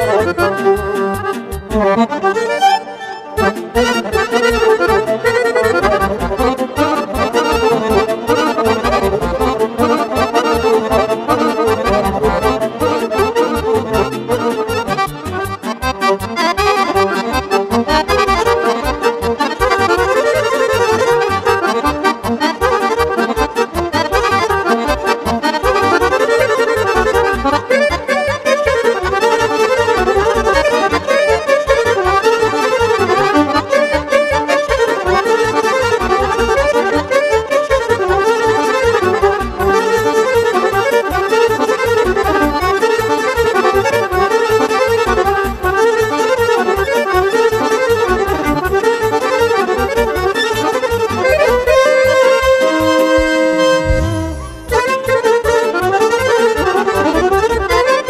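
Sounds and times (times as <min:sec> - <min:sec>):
digital accordion melody: 0:00.0 - 0:58.0
keyboard accompaniment with bass beat: 0:00.0 - 0:58.0.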